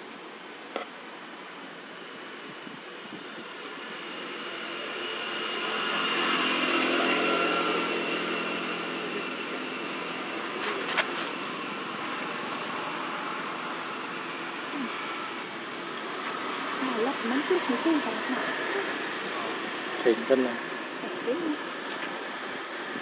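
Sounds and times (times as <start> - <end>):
passing motor vehicle engine: 4.4 - 23.0.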